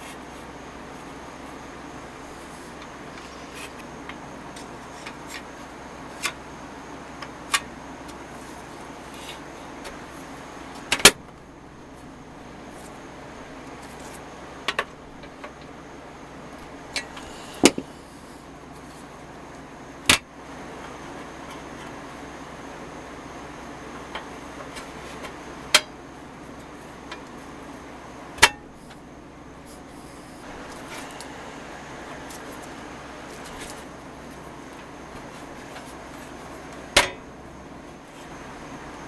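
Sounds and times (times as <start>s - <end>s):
steady hiss: 0.0s - 25.6s, 26.3s - 39.0s.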